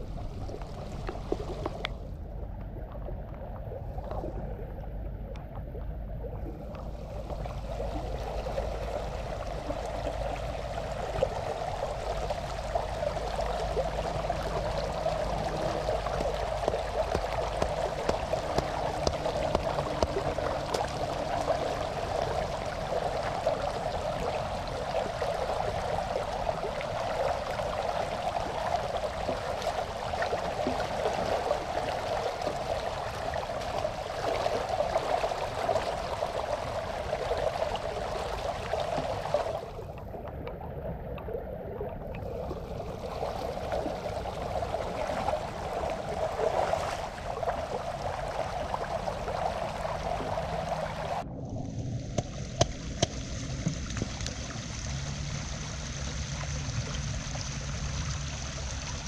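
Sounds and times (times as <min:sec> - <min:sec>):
floodwater rushing and splashing: 0:06.4 - 0:59.0.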